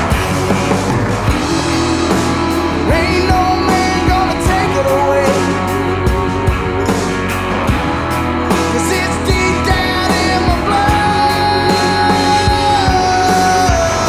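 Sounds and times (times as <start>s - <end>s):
song with vocal guitar and drums: 0.0s - 14.0s.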